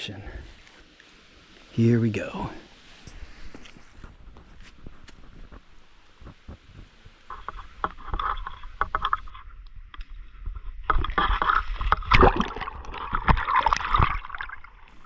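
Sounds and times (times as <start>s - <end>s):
water splashing and sloshing: 2.6s - 15.0s.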